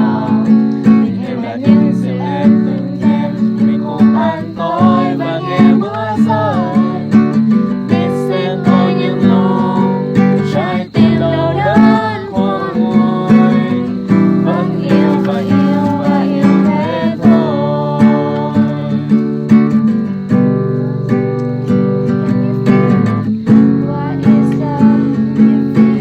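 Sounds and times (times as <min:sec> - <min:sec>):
person singing: 0:00.0 - 0:19.4, 0:20.4 - 0:26.0
strummed acoustic guitar: 0:00.0 - 0:26.0.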